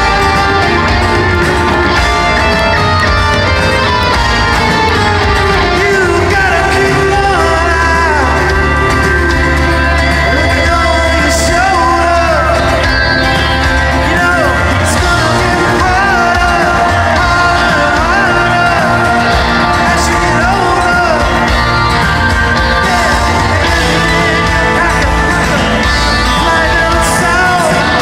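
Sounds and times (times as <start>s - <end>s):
bending lead melody: 0.0s - 28.0s
live rock band playing: 0.0s - 28.0s.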